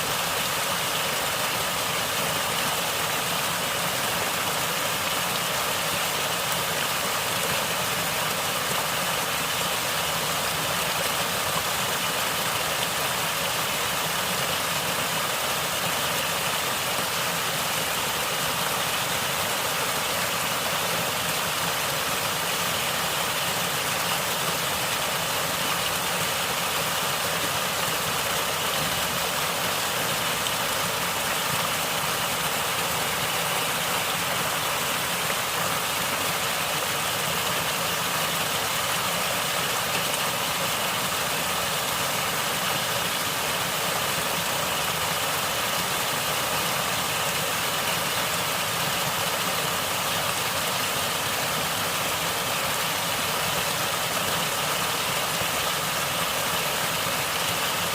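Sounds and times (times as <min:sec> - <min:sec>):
flowing water gurgling: 0:00.0 - 0:57.9.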